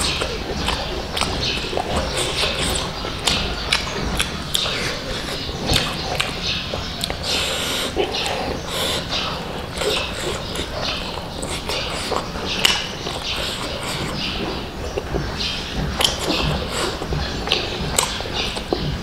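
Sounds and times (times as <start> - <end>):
chewing and lip smacking: 0.0 - 19.0.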